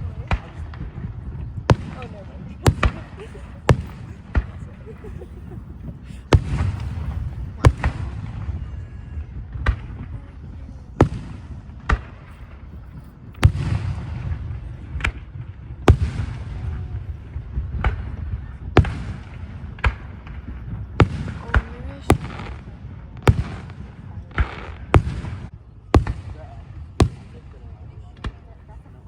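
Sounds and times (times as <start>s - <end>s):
firework shell deep boom: 0.0s - 8.6s, 11.0s - 27.4s
fireworks bangs: 0.0s - 29.0s.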